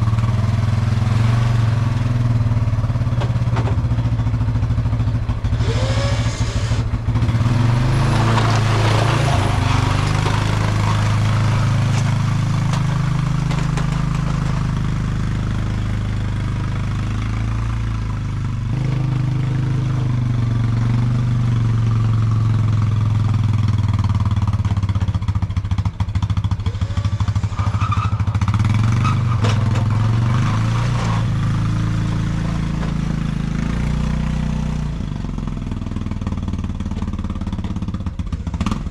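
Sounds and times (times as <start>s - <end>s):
atv engine running: 0.0s - 38.9s
plow scraping snow: 5.3s - 37.9s.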